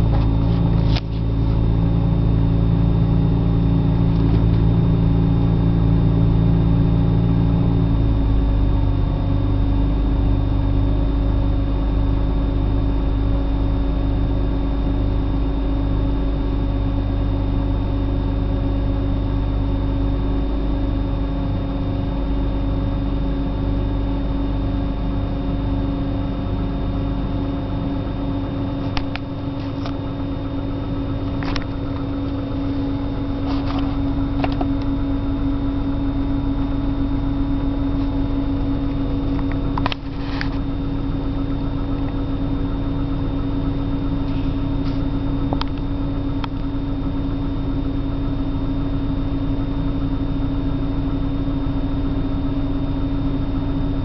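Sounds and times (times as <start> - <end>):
car engine idling roughly: 0.0 - 54.0.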